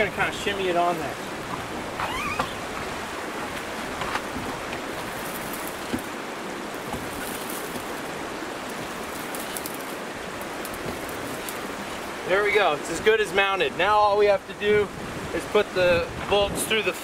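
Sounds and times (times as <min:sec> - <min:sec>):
creek rushing: 0:00.0 - 0:17.0.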